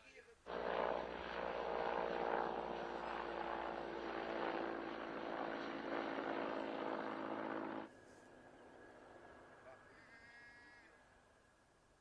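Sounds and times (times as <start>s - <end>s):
helicopter flying overhead: 0.5s - 11.7s.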